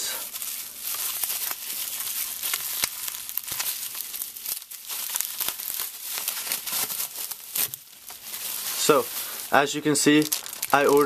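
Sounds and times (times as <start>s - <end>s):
packaging wrap crinkling: 0.0s - 11.0s.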